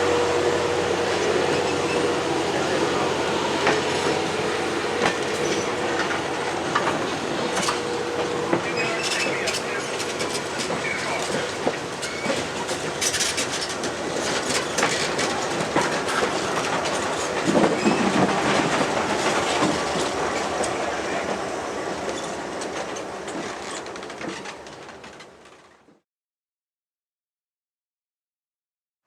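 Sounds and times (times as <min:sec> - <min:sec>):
train wheels clattering over rail joints: 0:01.2 - 0:25.9.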